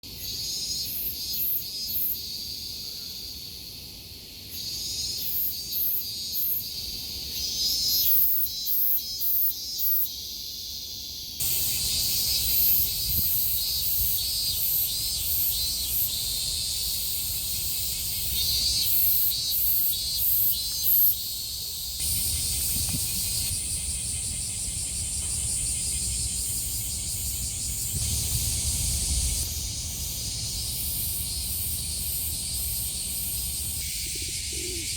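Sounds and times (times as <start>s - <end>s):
cicadas buzzing: 0.0s - 34.9s.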